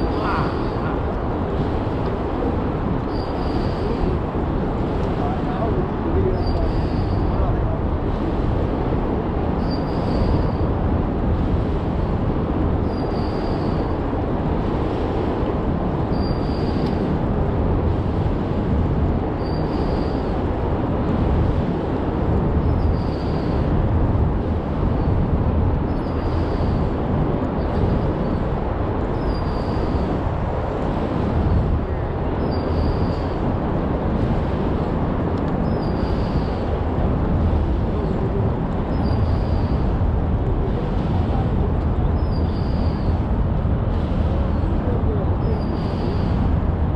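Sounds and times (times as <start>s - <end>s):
wind rumble: 0.0s - 46.9s.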